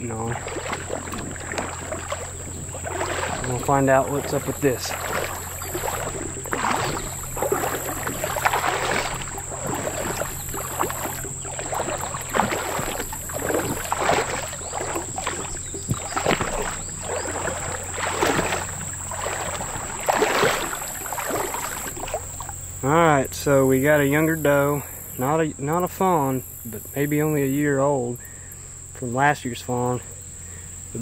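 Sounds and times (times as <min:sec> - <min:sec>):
splashing steps in water: 0:00.0 - 0:27.6.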